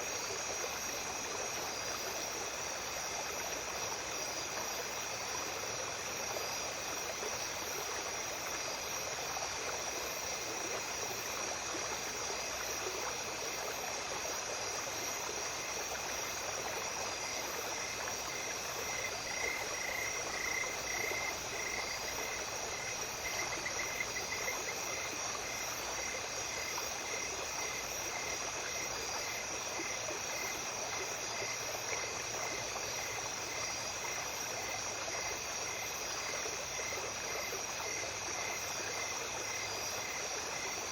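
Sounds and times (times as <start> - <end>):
insects trilling: 0.0 - 40.9
stream flowing: 0.0 - 40.9.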